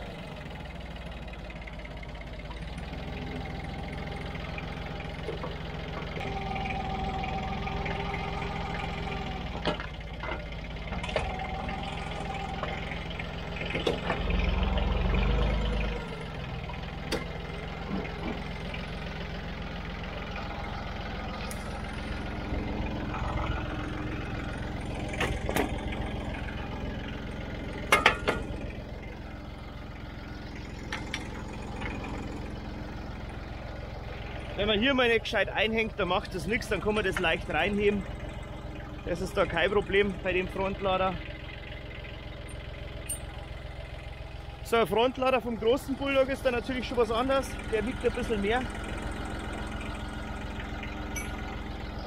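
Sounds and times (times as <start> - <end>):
clanks of steel front loader: 0.0 - 52.0
diesel tractor engine idling: 0.0 - 52.0.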